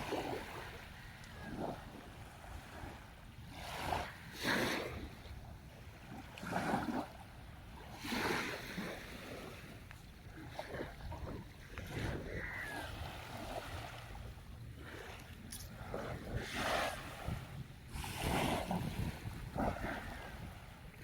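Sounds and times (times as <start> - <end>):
sea waves on shore: 0.0 - 21.0.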